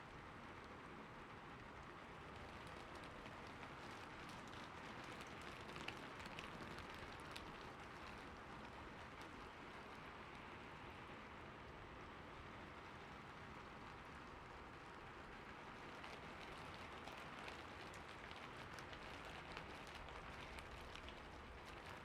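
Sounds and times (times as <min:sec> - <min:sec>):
soft rainfall: 0:00.0 - 0:22.0.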